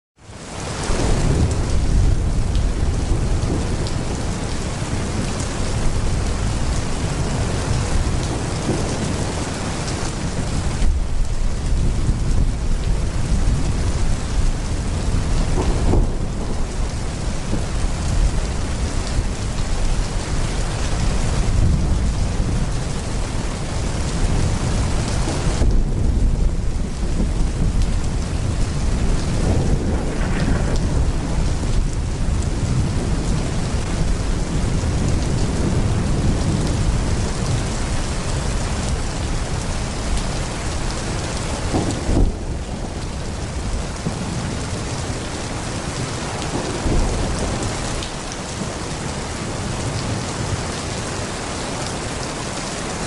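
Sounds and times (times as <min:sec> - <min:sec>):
heavy rain pouring: 0:00.2 - 0:53.0
low rumble of thunder: 0:00.8 - 0:50.8.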